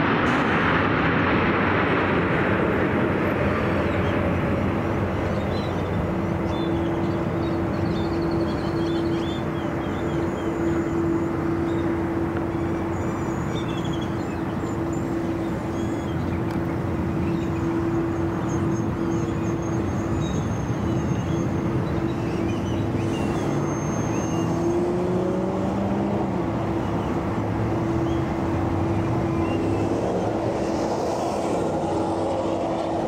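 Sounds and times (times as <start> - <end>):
jet engine taxiing: 0.0 - 33.0.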